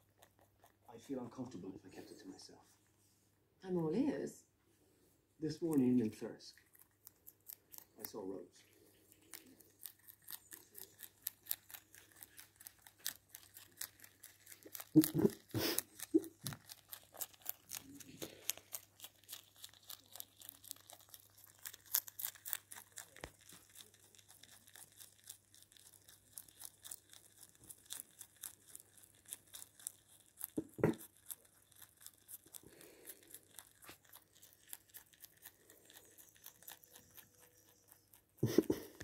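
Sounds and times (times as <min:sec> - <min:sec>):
rabbit chewing leaves: 0:00.0 - 0:02.7, 0:05.4 - 0:39.0.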